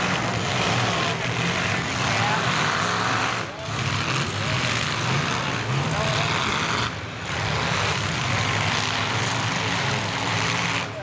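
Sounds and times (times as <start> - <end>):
truck engines revving hard: 0.0 - 11.0.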